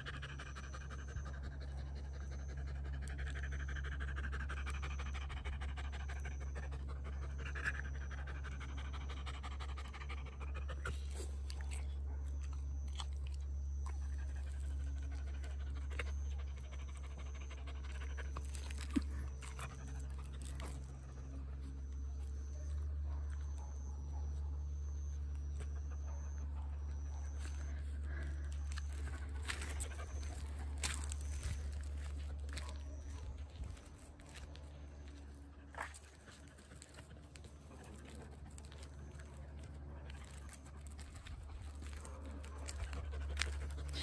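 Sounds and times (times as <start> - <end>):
dog panting: 0.0 - 13.0, 13.6 - 24.1, 25.6 - 44.0.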